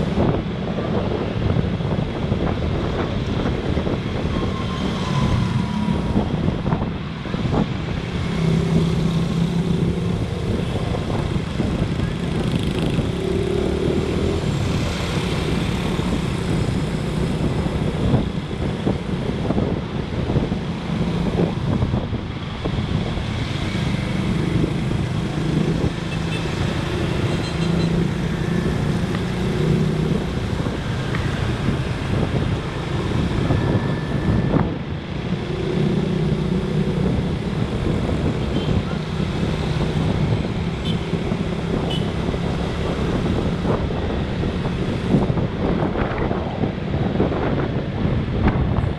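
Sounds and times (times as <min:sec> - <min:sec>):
road traffic: 0:00.0 - 0:48.9
wind rush: 0:00.0 - 0:48.9.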